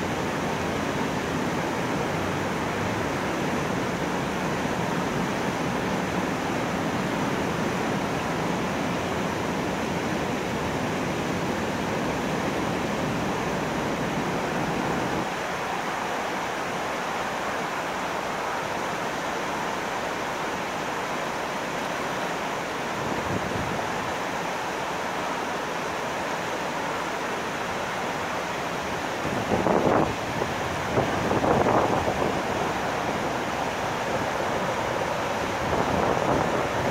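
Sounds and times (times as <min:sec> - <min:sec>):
water rushing through sluice gates: 0:00.0 - 0:36.9.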